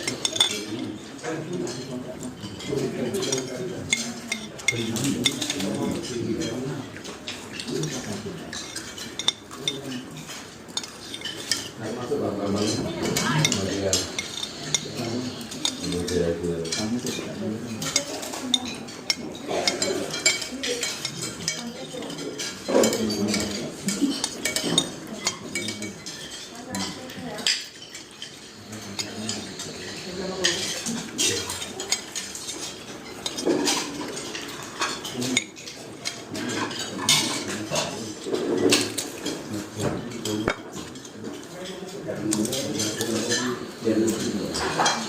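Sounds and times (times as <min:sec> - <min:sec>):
cutlery clinking on plates: 0:00.0 - 0:45.0
faint murmur of voices: 0:00.0 - 0:45.0.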